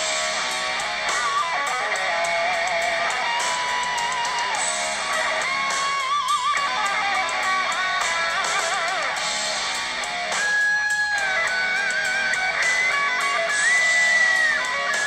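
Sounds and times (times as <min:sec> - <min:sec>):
guitar music through phone speaker: 0:00.0 - 0:15.0.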